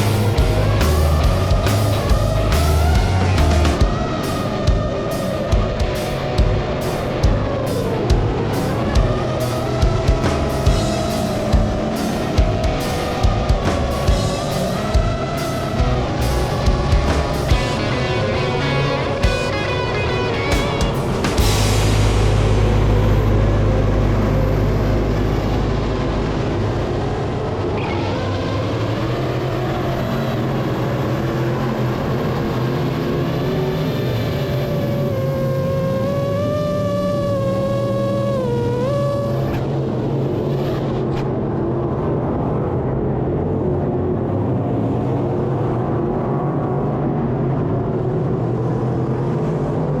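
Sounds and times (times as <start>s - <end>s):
drone motor whine: 0.0s - 41.2s
race car engines: 0.0s - 50.0s.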